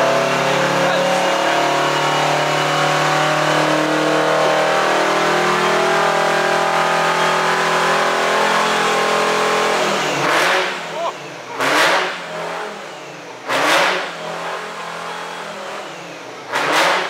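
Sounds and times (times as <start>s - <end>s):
diesel truck engine revving high: 0.0s - 17.0s.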